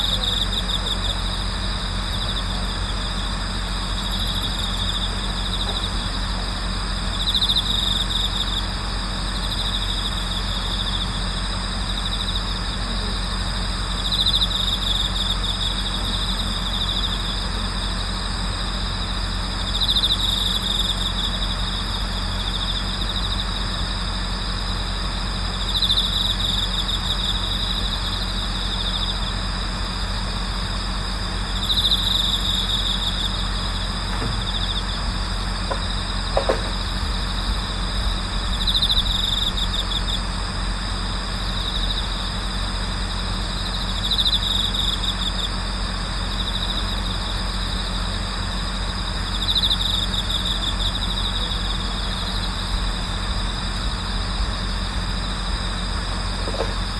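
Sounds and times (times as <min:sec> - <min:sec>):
crickets trilling: 0:00.0 - 0:56.9
low steady hum: 0:00.0 - 0:56.9.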